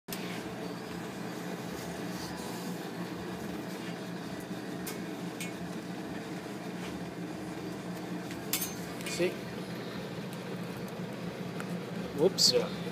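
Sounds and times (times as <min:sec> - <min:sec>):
machine hum: 0:00.1 - 0:12.9.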